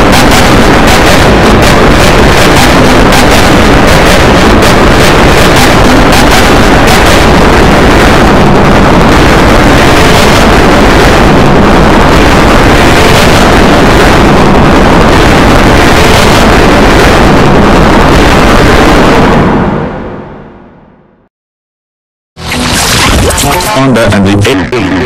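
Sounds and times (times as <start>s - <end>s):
harsh distorted noise: 0.0s - 21.2s, 22.4s - 25.0s.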